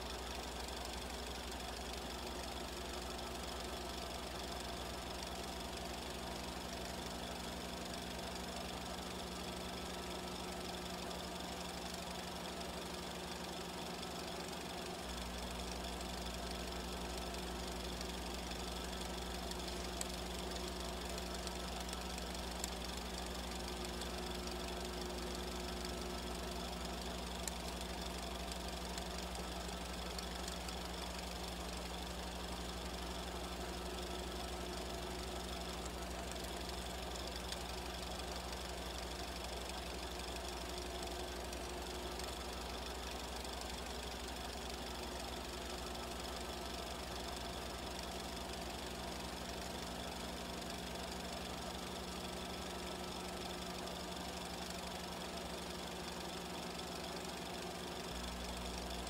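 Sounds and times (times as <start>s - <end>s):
film projector running: 0.0s - 59.0s.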